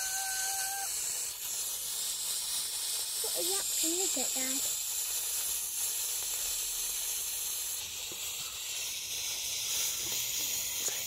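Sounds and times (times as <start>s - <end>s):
fuse burning hiss: 0.0s - 11.0s.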